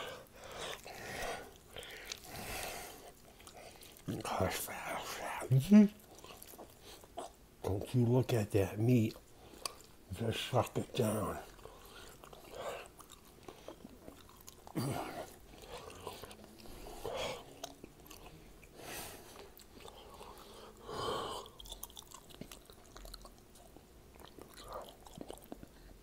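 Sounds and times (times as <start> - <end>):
person chewing: 0.0 - 7.9, 9.1 - 26.0.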